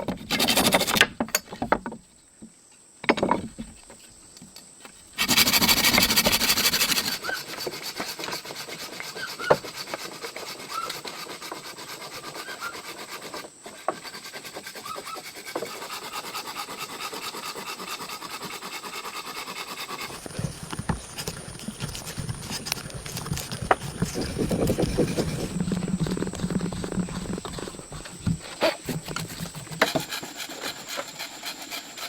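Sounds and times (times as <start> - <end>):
insects buzzing: 0.1 - 32.0.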